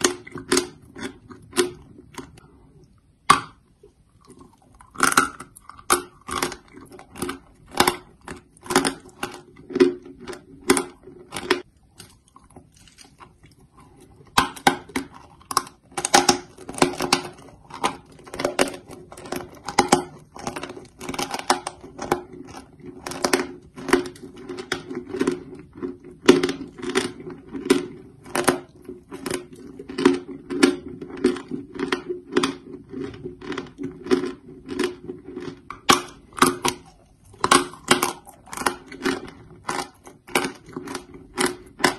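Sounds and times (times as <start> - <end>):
chewing chalk crunches: 0.0 - 3.5, 4.1 - 41.9.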